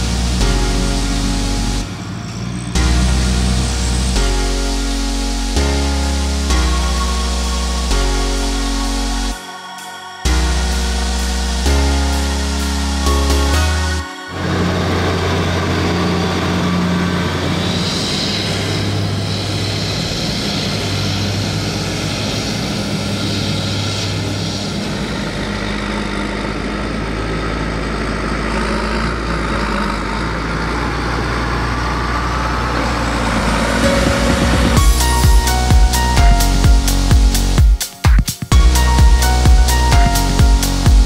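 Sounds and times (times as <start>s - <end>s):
tractor engine pulling trailer: 0.0s - 9.3s, 10.8s - 37.6s
forage harvester engine running: 0.0s - 9.4s, 10.4s - 37.6s.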